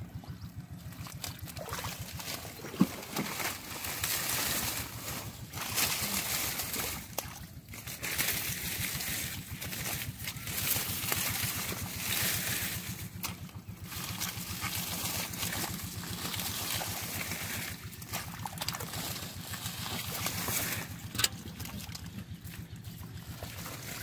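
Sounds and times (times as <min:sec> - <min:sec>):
muddy water sloshing from wading: 0:00.0 - 0:24.0.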